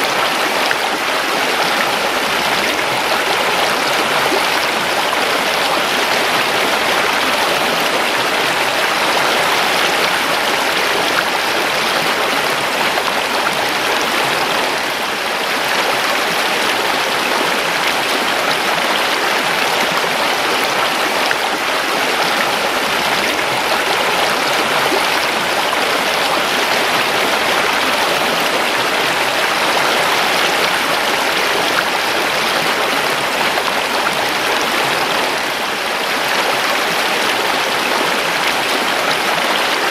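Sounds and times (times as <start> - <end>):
creek water rushing over stones: 0.0 - 39.9.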